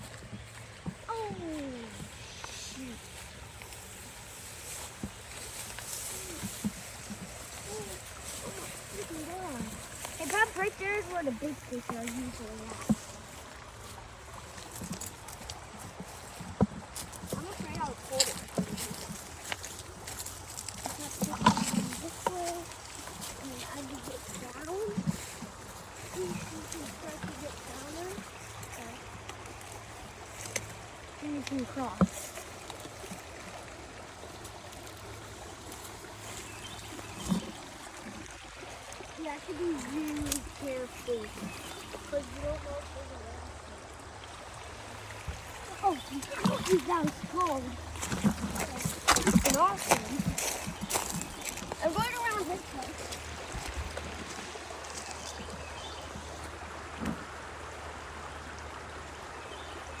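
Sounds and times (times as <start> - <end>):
creek water trickling: 0.0 - 60.0.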